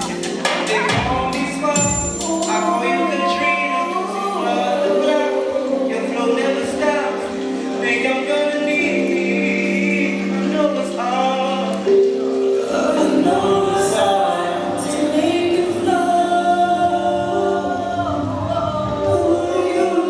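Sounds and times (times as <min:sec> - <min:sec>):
voices singing in harmony: 0:00.0 - 0:20.0.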